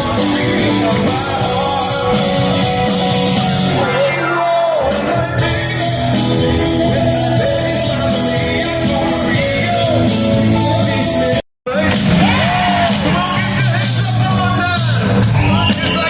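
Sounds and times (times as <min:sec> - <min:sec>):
electric guitar lead line: 0:00.0 - 0:16.0
live rock band playing: 0:00.0 - 0:16.0.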